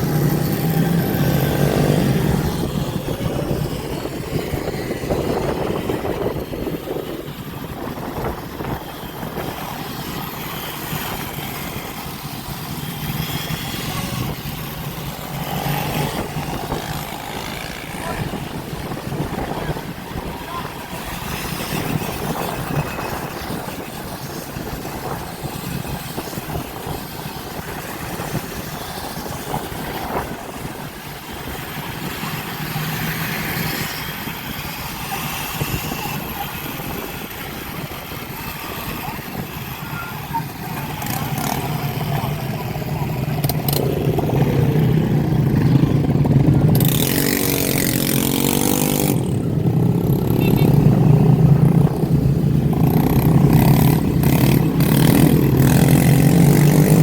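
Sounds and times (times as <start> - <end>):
motorbike engines revving: 0.0 - 57.0.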